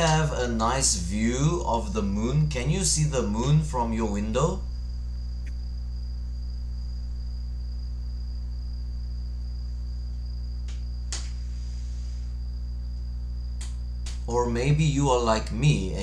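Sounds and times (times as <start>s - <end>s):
high-pitched whine: 0.0s - 16.0s
low hum: 0.0s - 16.0s.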